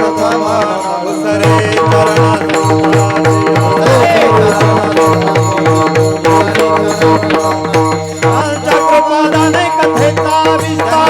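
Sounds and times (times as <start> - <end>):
harmonium chords: 0.0 - 11.0
hand drum beating: 1.3 - 11.0.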